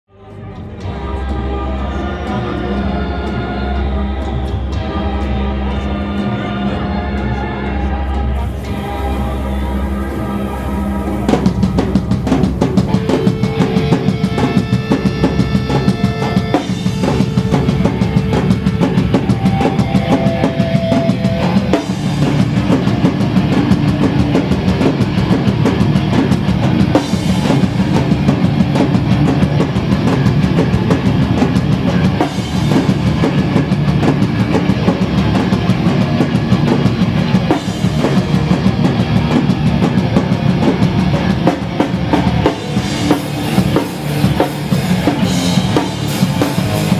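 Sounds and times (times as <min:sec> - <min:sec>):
punk band playing live: 0:00.4 - 0:46.9
fast pounding drums: 0:08.4 - 0:46.9.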